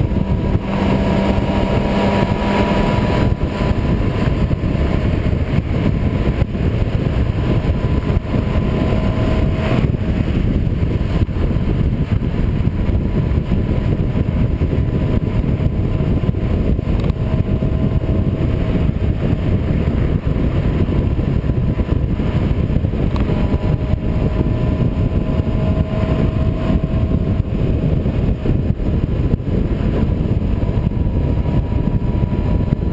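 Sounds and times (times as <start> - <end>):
motorcycle engine cruising: 0.0 - 32.9
wind rushing on microphone: 0.0 - 32.9.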